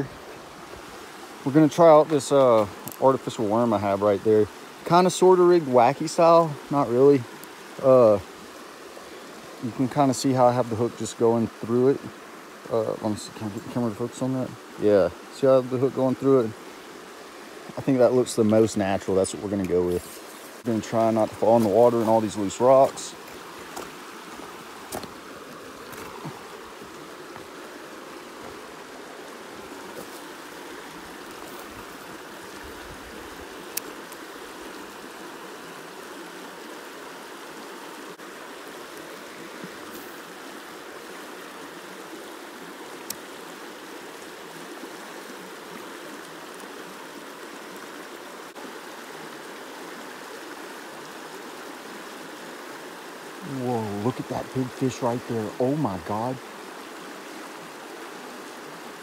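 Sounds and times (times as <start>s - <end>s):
stream water running over rocks: 0.0s - 59.0s.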